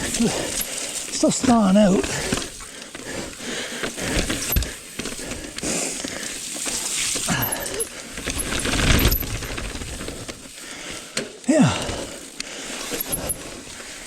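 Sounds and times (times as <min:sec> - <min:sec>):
bike rattling over roots: 0:00.0 - 0:14.0
bike tyres on muddy dirt: 0:00.0 - 0:14.0.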